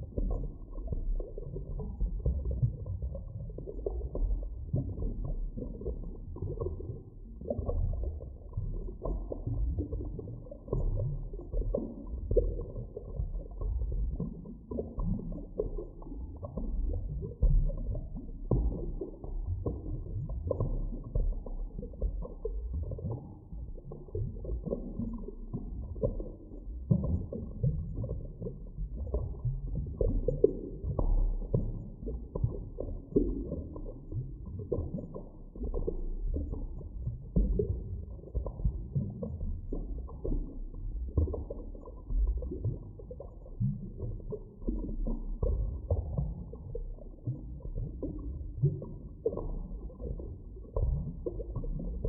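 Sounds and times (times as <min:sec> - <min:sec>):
muffled underwater rumble: 0:00.0 - 0:52.0.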